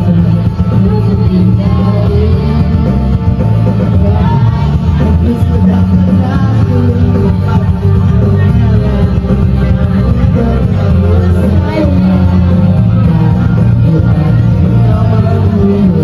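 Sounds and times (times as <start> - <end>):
backing track with heavy bass: 0.0 - 16.0
man and woman singing karaoke: 0.0 - 16.0.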